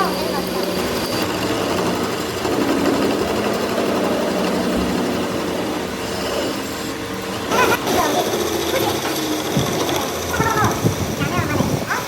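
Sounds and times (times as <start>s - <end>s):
machine motor droning: 0.0s - 12.0s.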